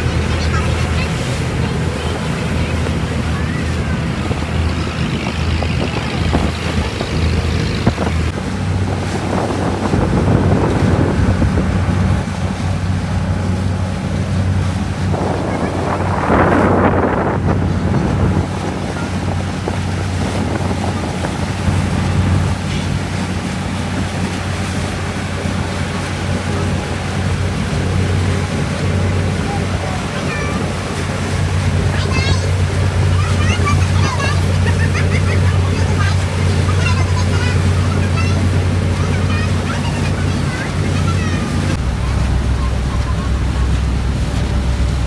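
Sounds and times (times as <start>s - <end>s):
boat engine running: 0.0s - 45.0s
rushing water: 0.0s - 45.0s
wind buffeting microphone: 0.0s - 45.0s.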